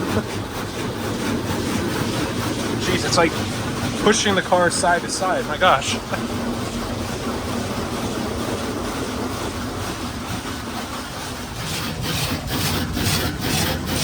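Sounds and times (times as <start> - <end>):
water jets spraying car body: 0.0 - 14.0.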